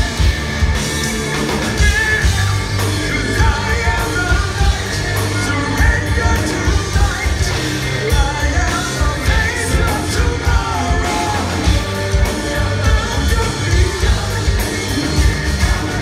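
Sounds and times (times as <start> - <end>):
live metal band playing: 0.0 - 16.0
pounding drums: 0.0 - 16.0
man singing: 1.7 - 16.0.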